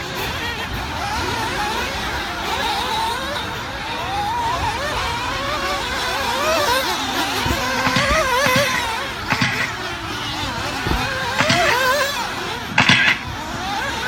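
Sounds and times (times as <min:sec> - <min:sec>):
rc buggy engines racing: 0:00.0 - 0:14.0.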